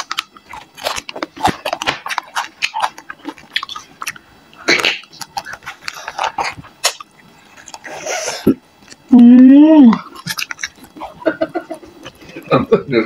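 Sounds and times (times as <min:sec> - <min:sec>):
crunchy chewing and biting: 0:00.0 - 0:09.1, 0:09.9 - 0:12.6.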